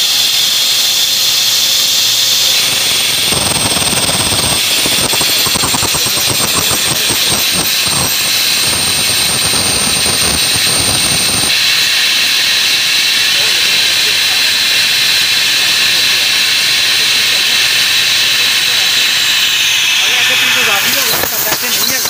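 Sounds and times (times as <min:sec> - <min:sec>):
high whine: 0:00.0 - 0:22.0
rough whirring of spinning wheel: 0:00.0 - 0:22.0
steady hiss of air: 0:00.0 - 0:22.0.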